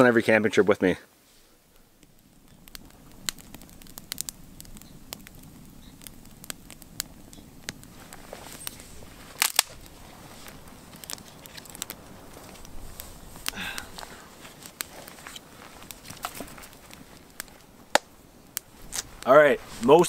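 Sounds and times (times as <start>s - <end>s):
faint steady hiss: 0.0s - 20.0s
dry wood cracking and popping: 1.4s - 20.0s.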